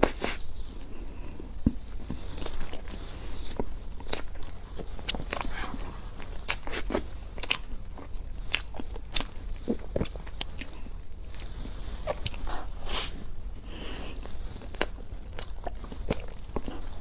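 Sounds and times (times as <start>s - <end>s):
faint low hum: 0.0s - 17.0s
person chewing: 0.0s - 17.0s.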